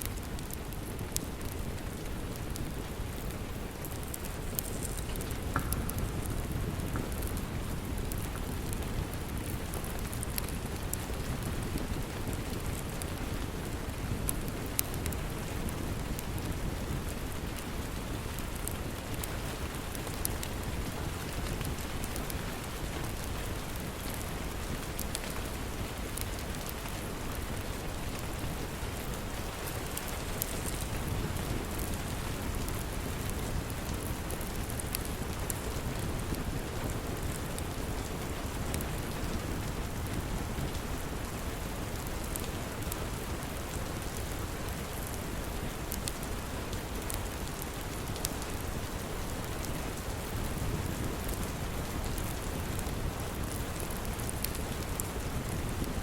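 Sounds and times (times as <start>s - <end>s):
steady rain hiss: 0.0s - 56.0s
wood fire crackles: 0.0s - 56.0s.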